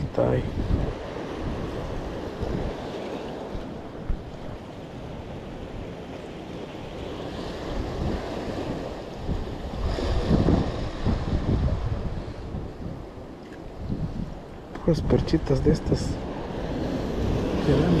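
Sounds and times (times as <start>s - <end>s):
wind buffeting microphone: 0.0s - 18.0s
sea waves washing against rocks: 0.1s - 18.0s.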